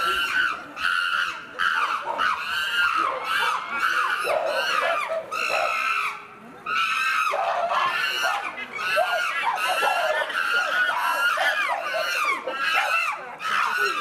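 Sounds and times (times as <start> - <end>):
chimpanzees screaming: 0.0 - 14.0.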